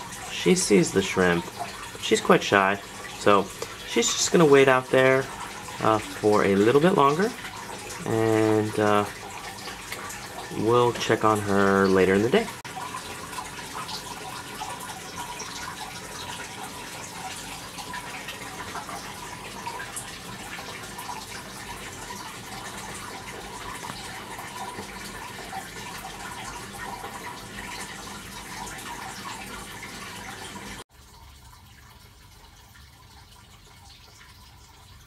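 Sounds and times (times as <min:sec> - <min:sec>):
water trickling and dripping: 0:00.0 - 0:35.0.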